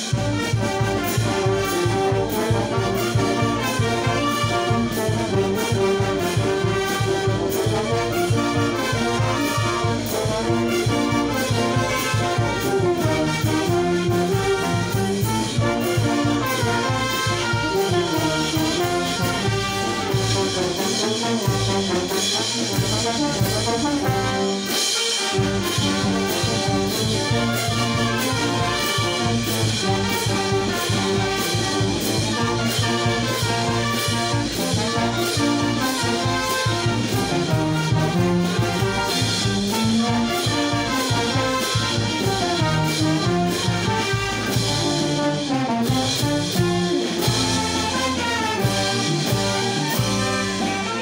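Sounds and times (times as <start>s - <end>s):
brass band playing: 0.0s - 51.0s
drum and cymbal beat: 0.0s - 51.0s.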